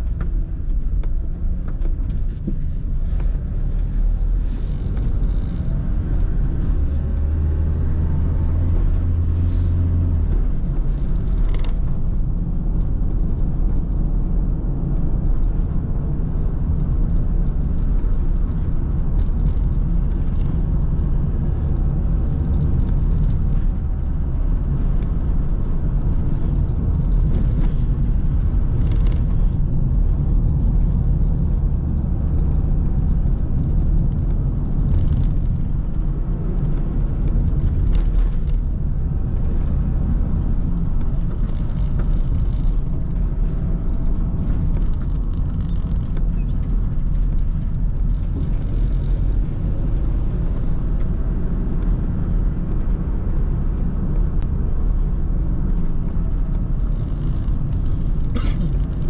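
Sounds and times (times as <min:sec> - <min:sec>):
car engine and tyres rumbling: 0:00.0 - 0:59.0
engine hum: 0:00.0 - 0:59.0.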